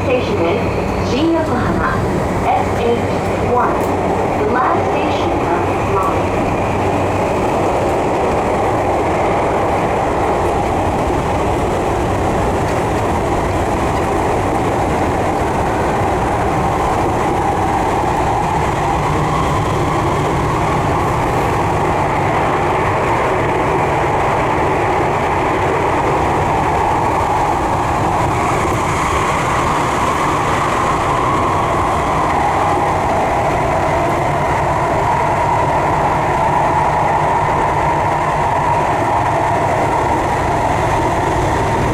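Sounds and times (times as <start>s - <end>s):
wheels rumbling on rail: 0.0s - 41.9s.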